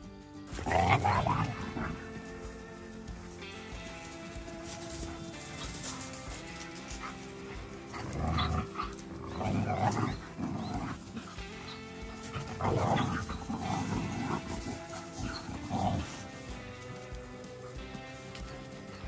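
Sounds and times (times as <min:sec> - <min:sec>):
background music: 0:00.0 - 0:19.0
paw thuds and rustling on grass: 0:00.5 - 0:19.0.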